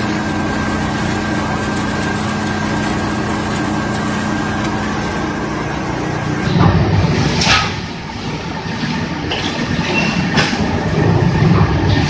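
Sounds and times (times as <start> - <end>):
machine humming with high whine: 0.0 - 12.0.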